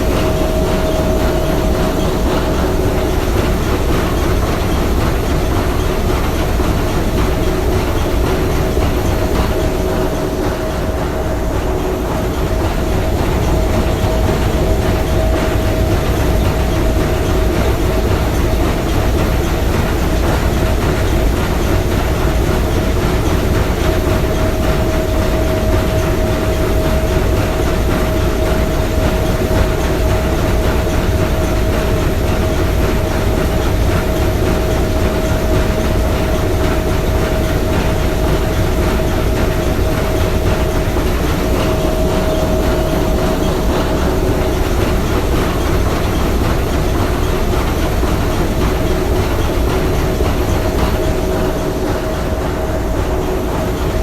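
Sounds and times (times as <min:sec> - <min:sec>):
steam engine running: 0:00.0 - 0:54.0.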